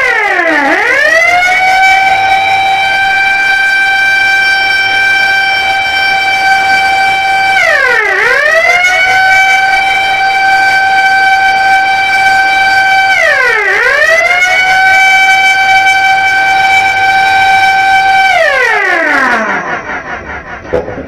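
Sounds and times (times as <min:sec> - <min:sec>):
siren wailing: 0:00.0 - 0:20.9.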